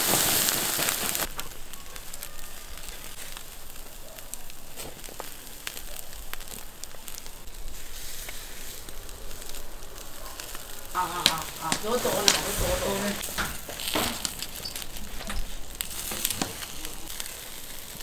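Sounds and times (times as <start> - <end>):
crackles and pops of coals: 0.0 - 18.0
meat hissing on grill: 0.0 - 18.0.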